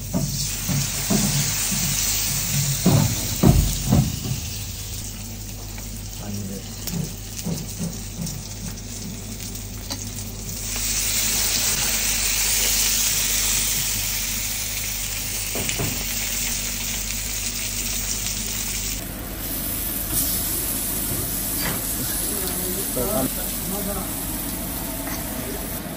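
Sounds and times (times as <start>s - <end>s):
fish sizzling on a grill: 0.0s - 25.9s.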